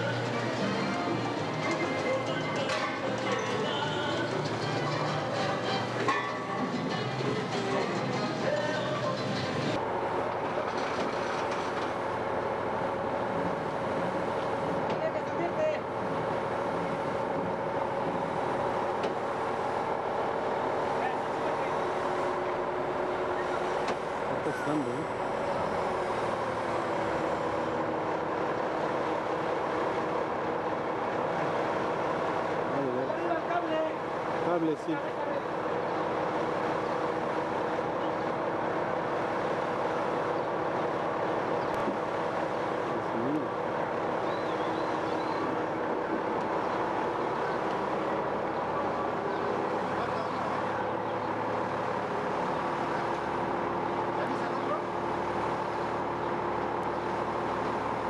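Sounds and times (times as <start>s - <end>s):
engine running steadily: 0.0s - 58.0s
steady machinery noise: 0.0s - 58.0s.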